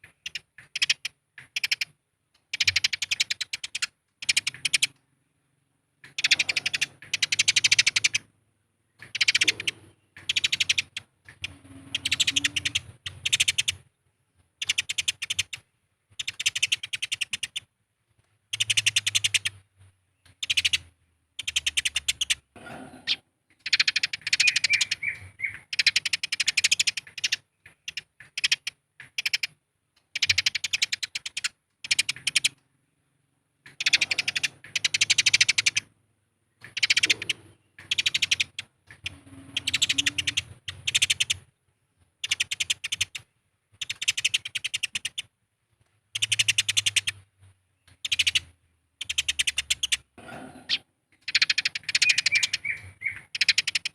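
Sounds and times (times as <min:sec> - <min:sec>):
sparrows chattering chirps: 0:00.0 - 0:05.0, 0:06.0 - 0:08.3, 0:08.9 - 0:13.9, 0:14.6 - 0:17.7, 0:18.5 - 0:35.9, 0:36.5 - 0:41.5, 0:42.2 - 0:45.3, 0:46.1 - 0:53.9.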